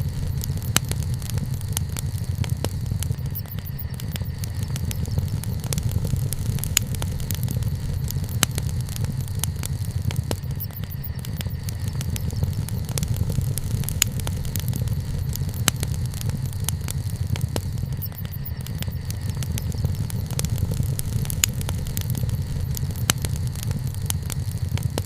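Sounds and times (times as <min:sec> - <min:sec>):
burning wood crackles and snaps: 0:00.0 - 0:25.0
flames rumbling: 0:00.0 - 0:25.0.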